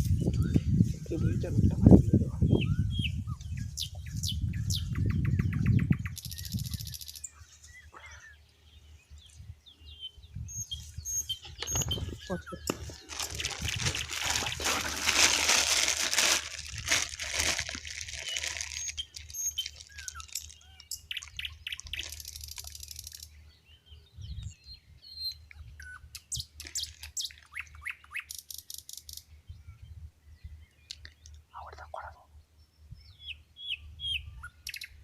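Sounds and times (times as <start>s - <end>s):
small birds chirping: 2.3s - 35.0s.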